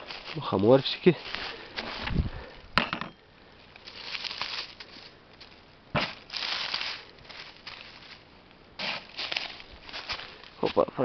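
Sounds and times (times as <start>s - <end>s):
dry leaves rustling and crunching: 0.0s - 2.1s, 3.7s - 11.0s.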